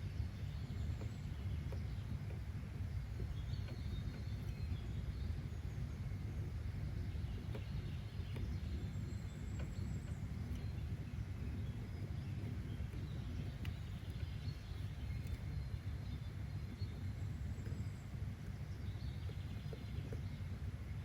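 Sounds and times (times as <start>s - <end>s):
low even rumble: 0.0s - 21.0s.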